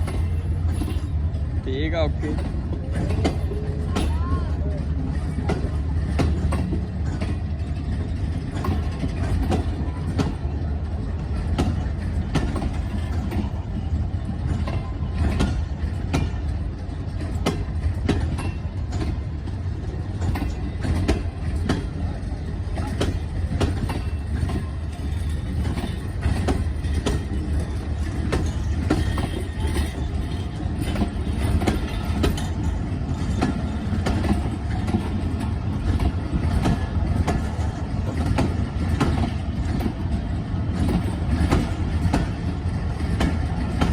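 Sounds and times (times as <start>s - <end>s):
train rumbling on rails: 0.0s - 43.9s
wheels clicking over rail joints: 0.0s - 43.9s.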